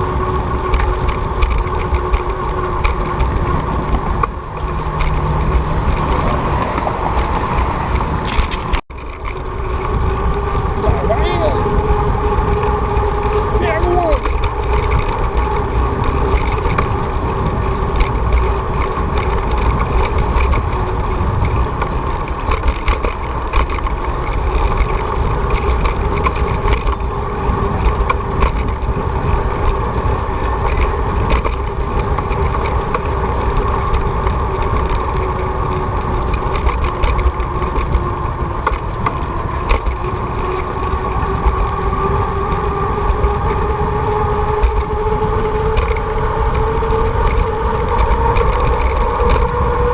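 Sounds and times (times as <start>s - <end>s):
constant whine: 0.0s - 49.9s
wind and road rush: 0.0s - 49.9s.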